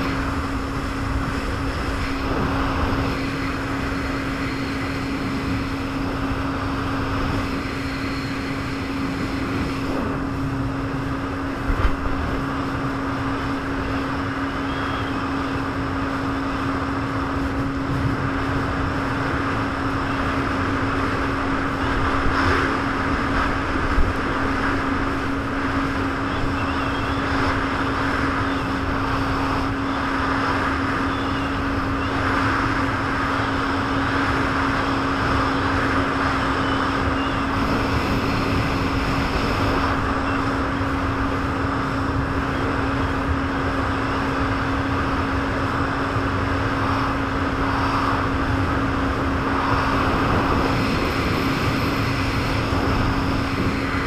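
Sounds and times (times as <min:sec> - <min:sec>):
jet ski engine running: 0:00.0 - 0:54.0
rushing noise: 0:00.0 - 0:54.0.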